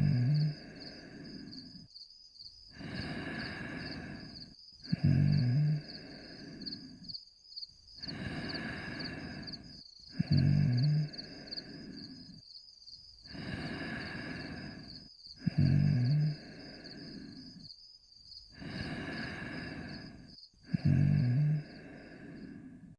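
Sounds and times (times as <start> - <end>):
person snoring: 0.0 - 1.8, 2.7 - 7.1, 8.0 - 12.4, 13.3 - 17.7, 18.5 - 22.9.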